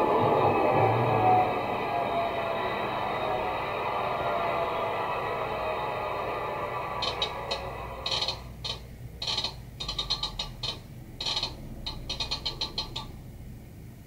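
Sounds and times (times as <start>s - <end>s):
diesel engine drone from small speaker: 0.0s - 14.0s.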